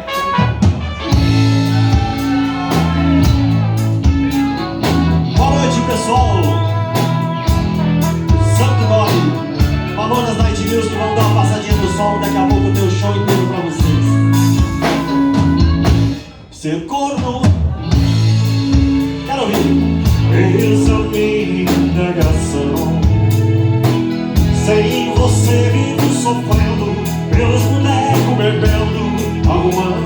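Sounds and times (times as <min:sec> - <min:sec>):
guitar melody: 0:00.0 - 0:16.3, 0:17.7 - 0:30.0
bass line: 0:00.0 - 0:16.4, 0:17.4 - 0:30.0
drum kit beat: 0:00.0 - 0:16.4, 0:17.2 - 0:30.0.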